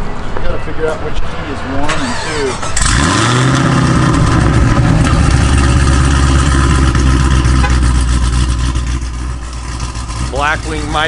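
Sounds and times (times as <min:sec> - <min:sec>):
car engine idling: 0:02.1 - 0:11.0.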